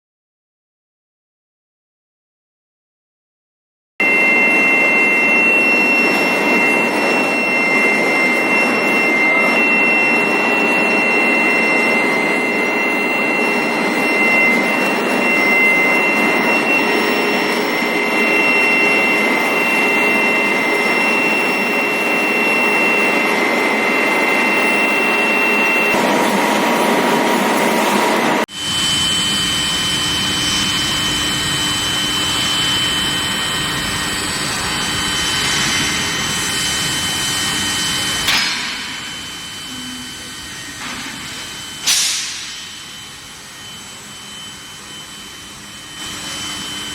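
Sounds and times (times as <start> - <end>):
high whining tones: 4.0 - 46.9
lower machine tone: 4.0 - 46.9.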